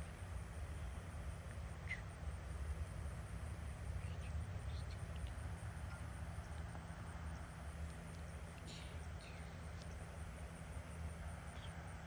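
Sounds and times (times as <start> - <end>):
faint hiss: 0.0 - 12.0
steady low hum: 0.0 - 12.0.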